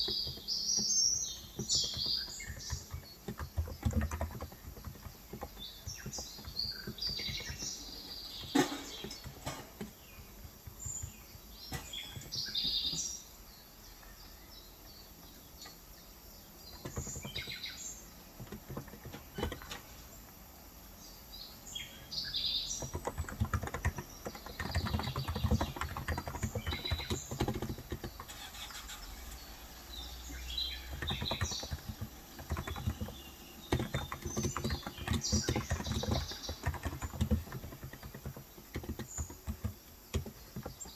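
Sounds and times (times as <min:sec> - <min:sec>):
keyboard typing: 0:00.0 - 0:12.8, 0:16.7 - 0:17.7, 0:18.3 - 0:19.9, 0:22.7 - 0:29.6, 0:30.3 - 0:40.9
birds chirping: 0:00.0 - 0:40.9.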